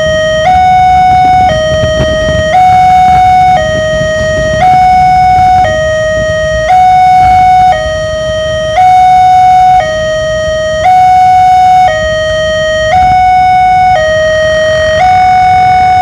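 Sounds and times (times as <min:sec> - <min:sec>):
two-tone level-crossing siren: 0:00.0 - 0:16.0.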